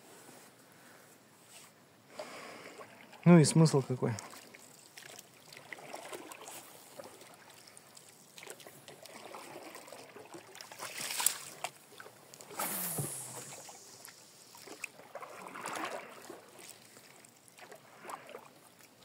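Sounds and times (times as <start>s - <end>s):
water swishes: 2.0s - 19.0s
water splashing around boat: 2.1s - 19.0s.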